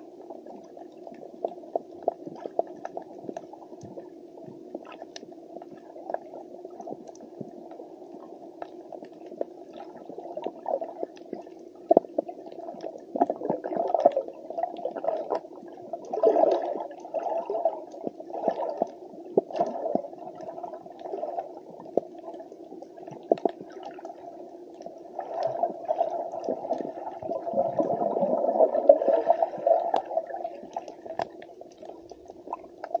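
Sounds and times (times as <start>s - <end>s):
faint clicks and crackles: 0.0s - 33.0s
muffled underwater rushing water: 0.0s - 33.0s.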